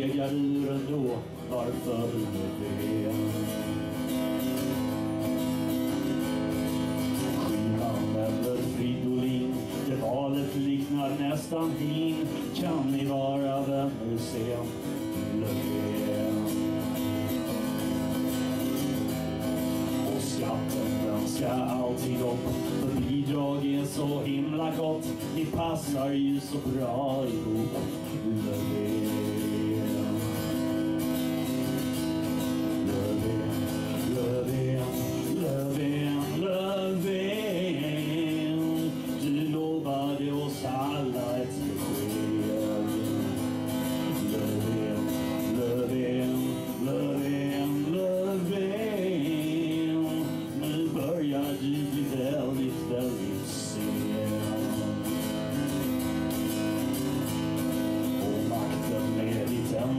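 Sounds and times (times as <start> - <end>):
acoustic guitar: 0.0 - 59.9
man singing: 0.0 - 59.9.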